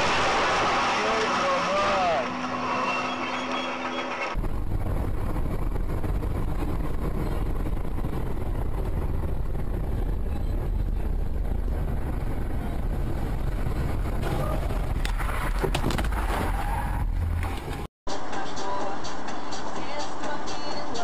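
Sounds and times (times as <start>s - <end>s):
car road and engine rumble: 0.0s - 17.9s.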